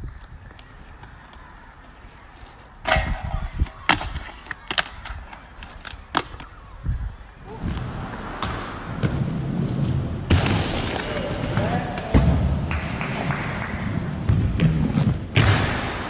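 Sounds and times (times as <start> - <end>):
skates clacking on concrete: 0.0 - 6.8, 7.5 - 15.8
wheels rolling rumble: 0.0 - 15.4
skate grind: 0.0 - 16.0.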